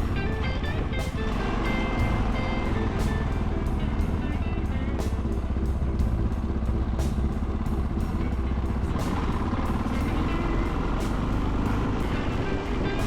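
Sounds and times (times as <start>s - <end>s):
motorcycle engine running: 0.0s - 13.0s
music with a steady beat: 0.0s - 13.0s.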